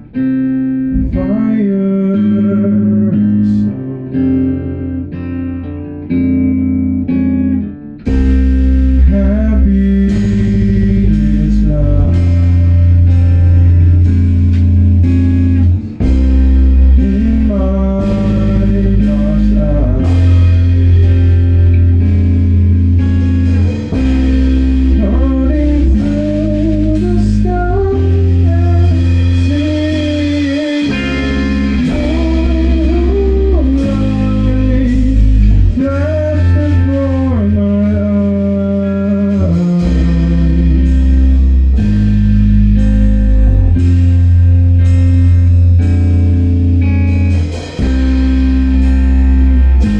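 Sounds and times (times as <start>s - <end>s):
bending melody line: 0.0s - 49.9s
rock band playing: 0.0s - 49.9s.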